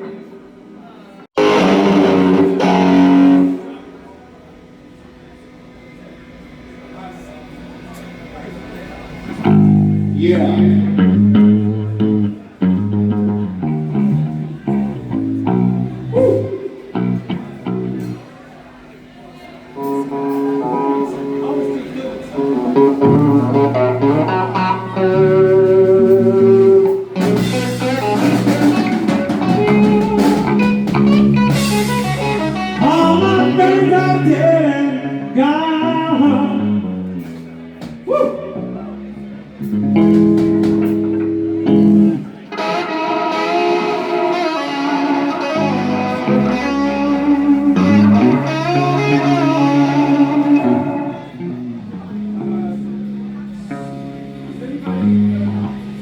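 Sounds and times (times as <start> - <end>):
bass guitar: 1.4 - 4.1, 7.8 - 18.6, 19.7 - 56.0
live rock band playing: 1.4 - 4.1, 9.0 - 18.4, 19.6 - 56.0
electric guitar chords: 1.4 - 56.0.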